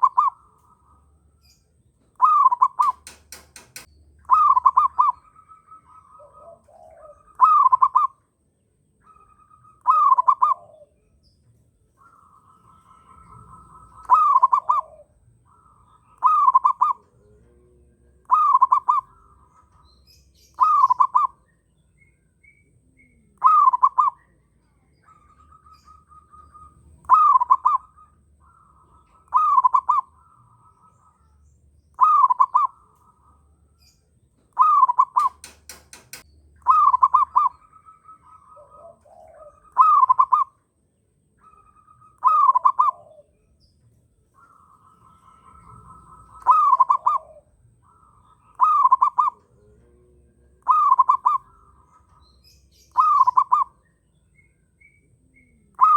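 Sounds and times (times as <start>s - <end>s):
bird trilling: 0.0s - 8.4s, 9.0s - 55.9s
dove cooing: 0.0s - 8.4s, 9.0s - 40.8s, 41.4s - 55.9s.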